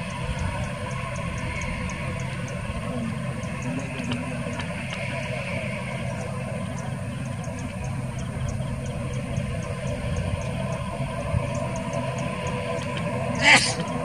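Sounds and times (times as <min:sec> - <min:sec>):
turboprop engines droning: 0:00.0 - 0:14.0.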